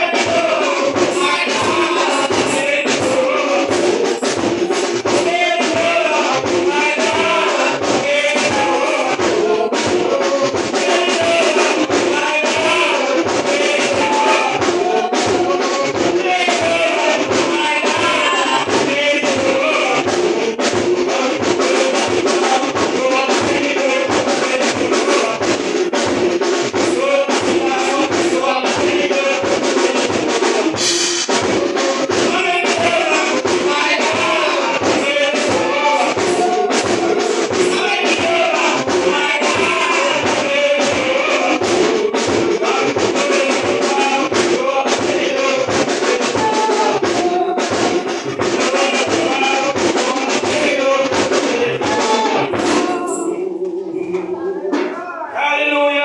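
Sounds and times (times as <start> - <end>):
steady drum beat: 0.0 - 55.9
congregation singing a hymn: 0.0 - 56.0.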